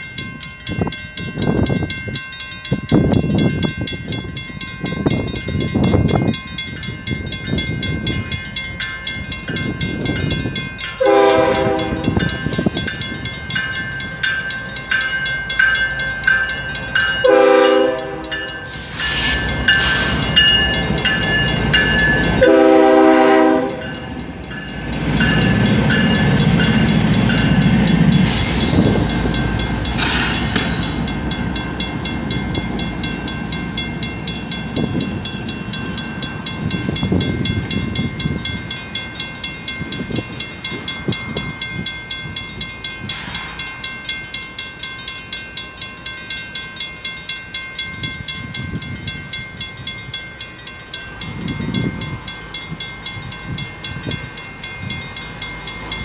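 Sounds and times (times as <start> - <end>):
crossing bells ringing: 0.0 - 56.0
diesel locomotive rumbling past: 0.0 - 56.0.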